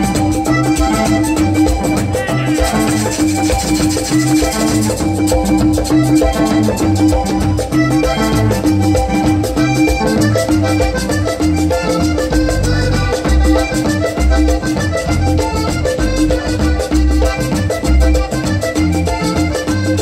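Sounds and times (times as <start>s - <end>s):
hand drum beat: 0.0s - 20.0s
lively folk melody: 0.0s - 20.0s.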